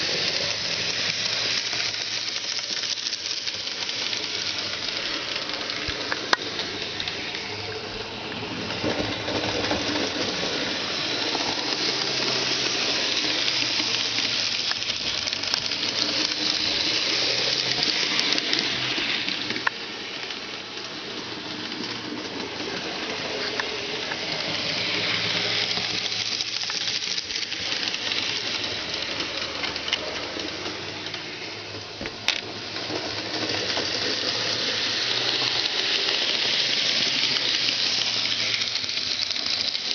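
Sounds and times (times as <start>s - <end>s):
model train whirring on track: 0.0s - 39.9s.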